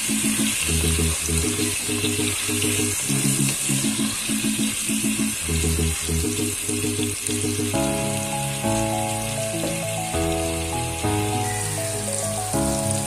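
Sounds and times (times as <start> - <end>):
background music with low beat: 0.0 - 13.0
potatoes sizzling in hot oil: 0.0 - 13.0.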